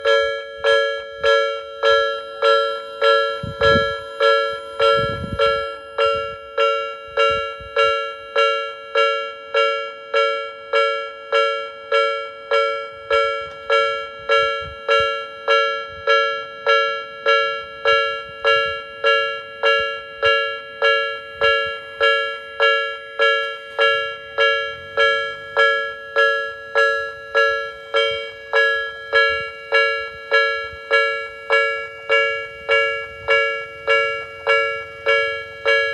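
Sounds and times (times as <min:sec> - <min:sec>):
level crossing bell clanging: 0:00.0 - 0:35.9.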